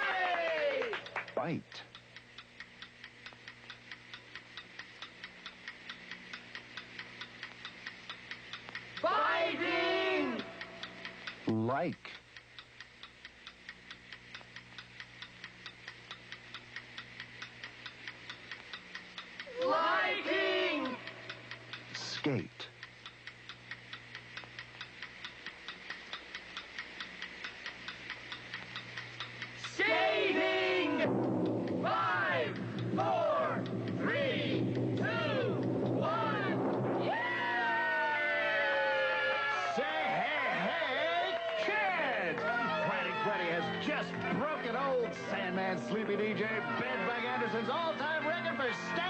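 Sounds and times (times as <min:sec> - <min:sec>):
faint low hum: 0:00.0 - 0:49.0
clock ticking: 0:00.1 - 0:40.7, 0:41.7 - 0:49.0.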